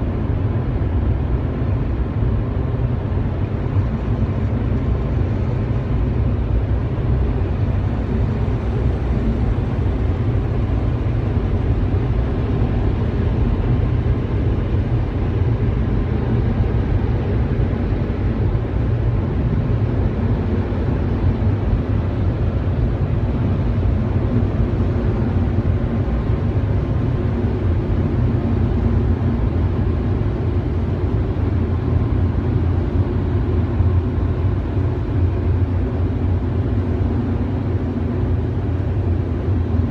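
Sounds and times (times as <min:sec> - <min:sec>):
car wash rumble and hiss: 0:00.0 - 0:39.9.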